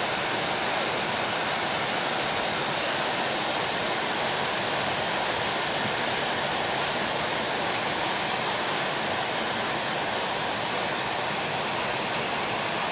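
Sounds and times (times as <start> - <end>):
river rushing over boulders: 0.0 - 12.9.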